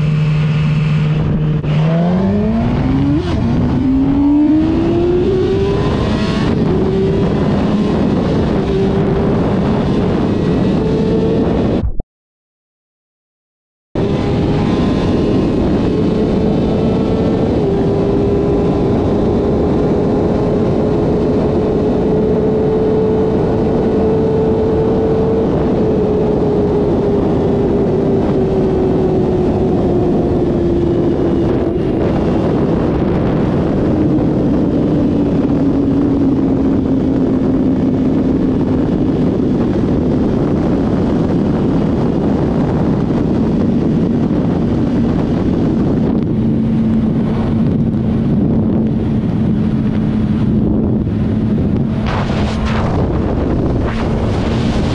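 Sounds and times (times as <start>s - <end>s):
motorcycle engine at high revs: 0.0s - 11.8s, 14.0s - 54.9s
wind rush on microphone: 0.0s - 12.0s, 14.0s - 54.9s.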